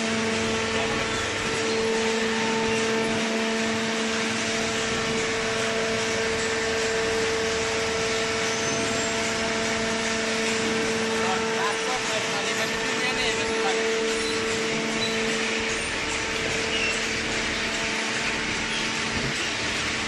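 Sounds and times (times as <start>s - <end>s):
baler motor hum and whine: 0.0s - 20.0s.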